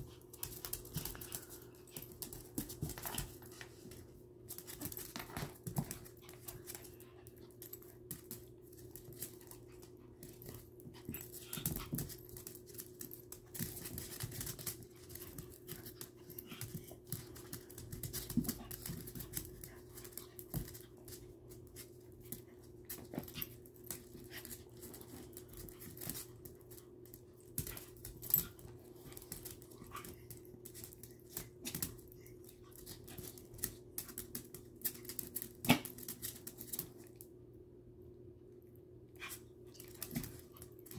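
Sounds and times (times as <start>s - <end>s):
dogs scuffling: 0.0s - 37.2s
dog claws clicking on floor: 0.0s - 37.3s, 39.2s - 40.9s.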